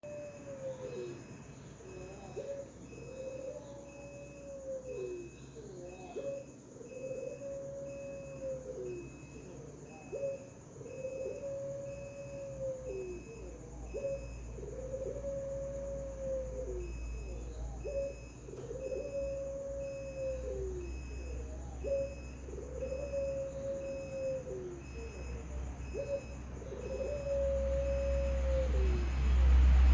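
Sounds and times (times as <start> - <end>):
dove cooing: 0.0 - 29.9.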